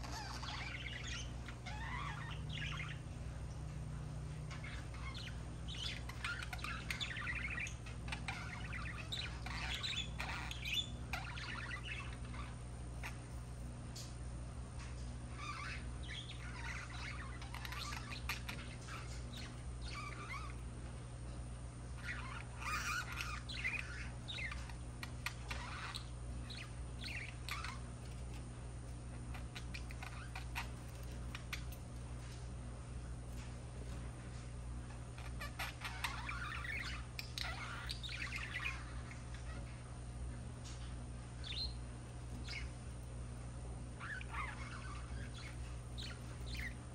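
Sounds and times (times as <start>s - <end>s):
budgerigars warbling and chirping: 0.0s - 14.2s, 14.8s - 21.1s, 21.8s - 46.9s
low steady hum: 0.0s - 46.9s.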